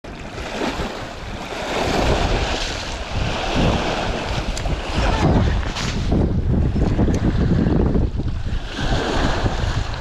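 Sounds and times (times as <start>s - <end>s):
lake water churning against bank: 0.0s - 10.0s
wind buffeting microphone: 0.1s - 10.0s.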